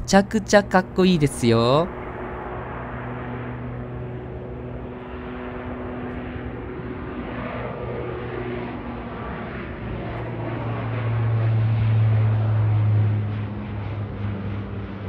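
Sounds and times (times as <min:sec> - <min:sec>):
turboprop propeller drone: 0:00.0 - 0:15.0.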